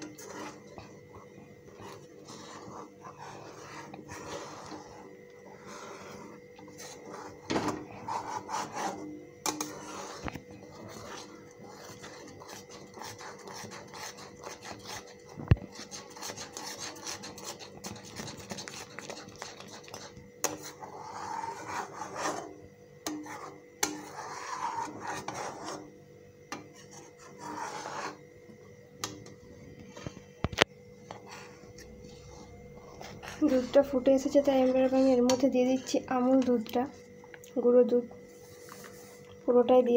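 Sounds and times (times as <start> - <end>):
spatula scraping a pan: 0.0 - 25.9, 26.5 - 28.2, 31.1 - 36.0.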